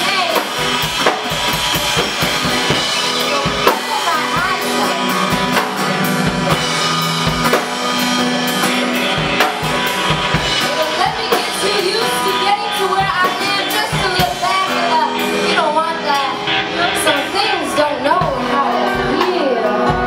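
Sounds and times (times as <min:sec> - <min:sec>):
drum kit beat: 0:00.0 - 0:20.0
live band playing: 0:00.0 - 0:20.0.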